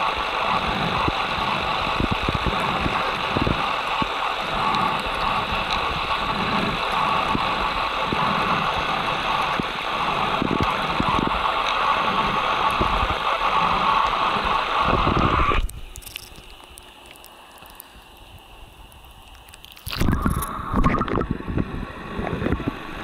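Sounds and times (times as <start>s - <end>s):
underwater crackling hiss: 0.0s - 23.0s.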